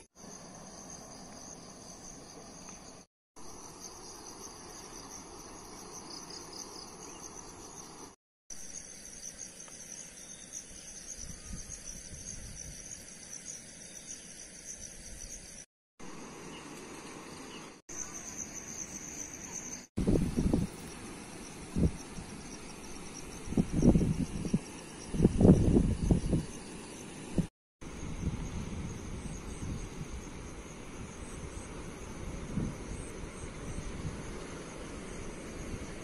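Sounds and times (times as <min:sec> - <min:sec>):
insects chirring: 0:00.2 - 0:36.0.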